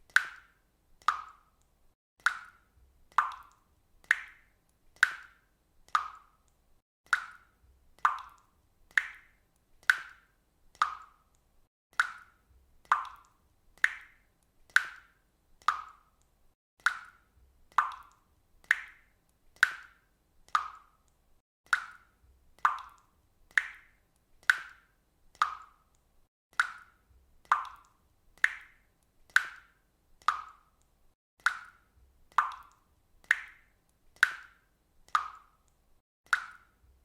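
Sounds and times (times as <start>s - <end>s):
water drops plopping: 0.1s - 1.6s, 2.2s - 6.4s, 7.1s - 11.3s, 12.0s - 16.2s, 16.8s - 21.0s, 21.7s - 25.8s, 26.6s - 30.8s, 31.4s - 35.7s, 36.3s - 36.8s.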